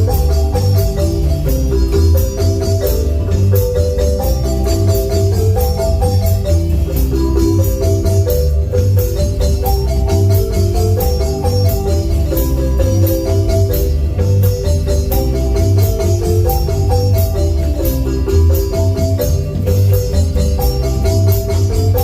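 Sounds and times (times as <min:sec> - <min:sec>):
heavy bass: 0:00.0 - 0:22.0
marimba melody: 0:00.0 - 0:22.0
percussion beat: 0:00.0 - 0:22.0.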